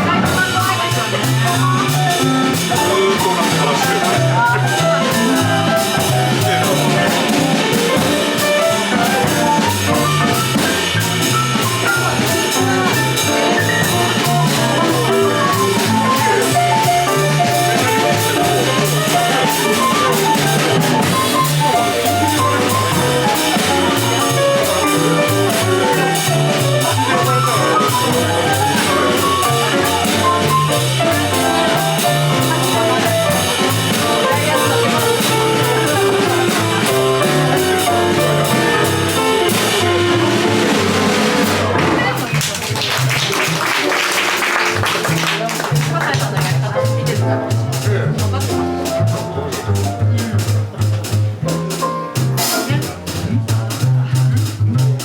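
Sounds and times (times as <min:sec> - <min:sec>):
moving bass line: 0:00.0 - 0:42.8, 0:45.4 - 0:55.0
drum kit with cymbals: 0:00.0 - 0:55.0.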